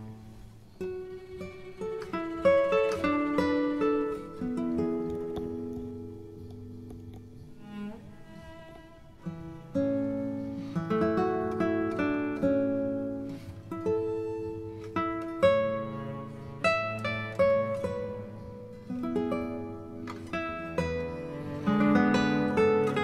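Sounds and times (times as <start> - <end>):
acoustic guitar picking: 0.0 - 23.0.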